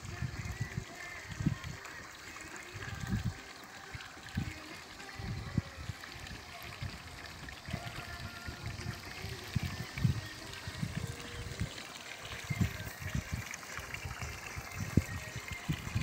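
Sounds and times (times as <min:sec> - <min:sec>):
wind buffeting microphone: 0:00.0 - 0:01.8, 0:04.2 - 0:16.0
water trickling into pond: 0:00.0 - 0:16.0.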